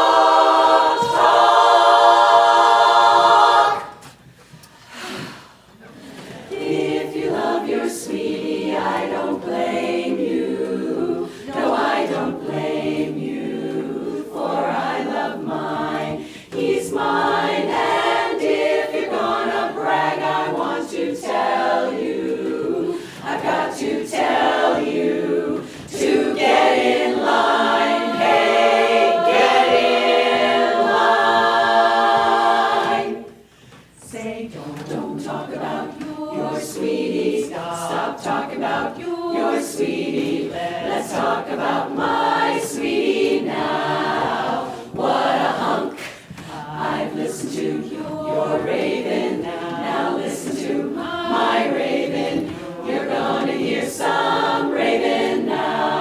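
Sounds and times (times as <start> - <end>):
a cappella chorus singing: 0.0 - 56.0.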